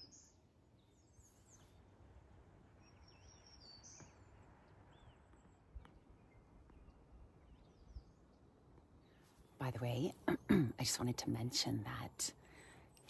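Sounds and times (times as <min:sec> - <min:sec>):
faint bird chirps: 0:00.0 - 0:10.9
low outdoor background hum: 0:00.0 - 0:13.0.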